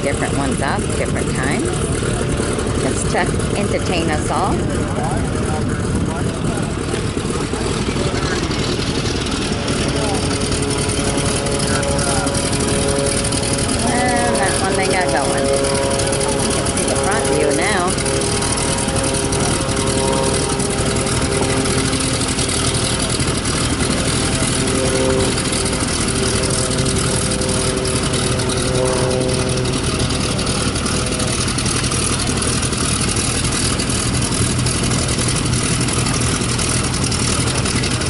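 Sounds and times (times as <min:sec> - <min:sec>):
biplane engine running: 0:00.0 - 0:38.0.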